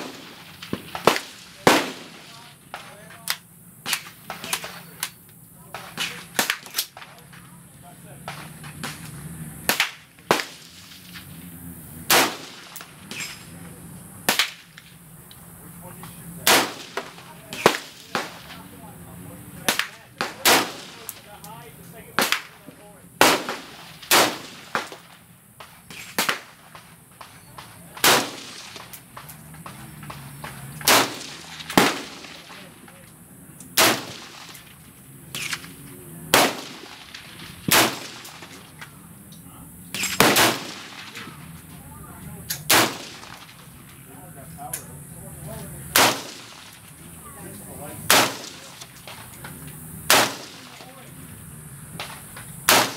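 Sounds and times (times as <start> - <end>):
rifle shots with short echo: 0.0 - 7.4, 8.2 - 11.4, 12.0 - 15.0, 16.0 - 18.8, 19.6 - 21.4, 22.1 - 33.0, 33.6 - 39.0, 39.9 - 41.6, 42.5 - 44.0, 45.8 - 47.0, 48.0 - 51.1, 52.0 - 52.9.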